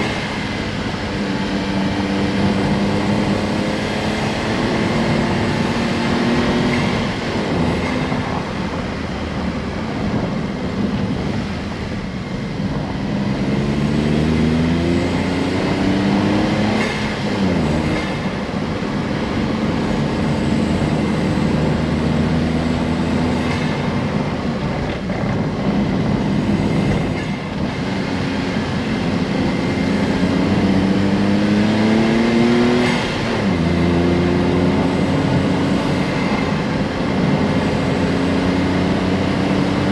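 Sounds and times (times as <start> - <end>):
car engine accelerating through gears: 0.0 - 11.4, 12.6 - 39.9.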